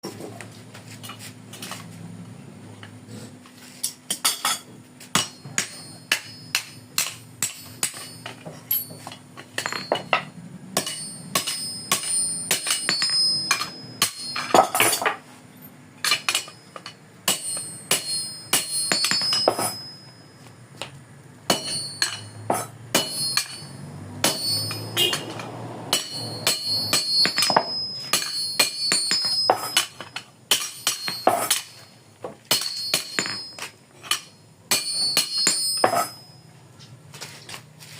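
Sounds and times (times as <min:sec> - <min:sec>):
hammer striking metal: 0:03.9 - 0:15.2, 0:16.0 - 0:20.3, 0:21.5 - 0:36.4.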